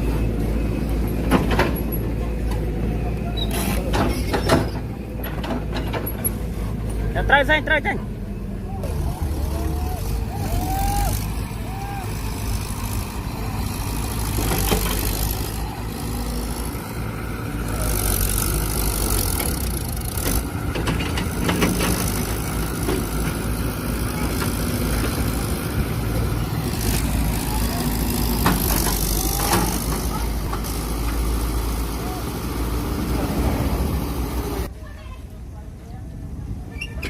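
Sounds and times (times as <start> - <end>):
diesel engine running under load: 0.0 - 34.7.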